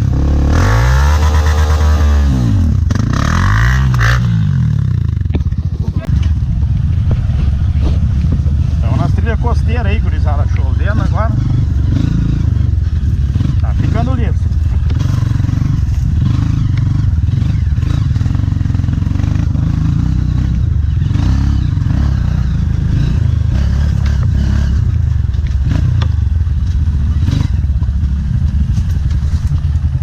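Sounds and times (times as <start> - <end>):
motorcycle engine running: 0.0 - 30.0
knocks and clatter on rough trail: 2.8 - 30.0.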